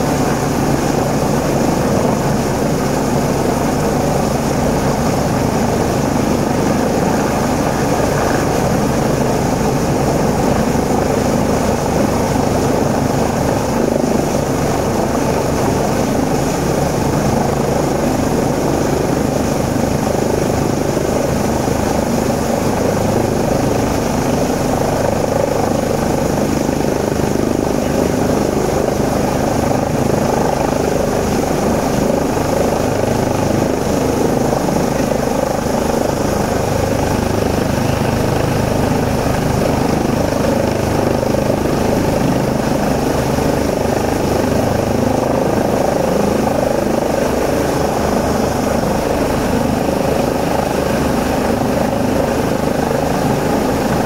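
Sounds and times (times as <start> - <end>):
helicopter rotor chopping: 0.0 - 54.0.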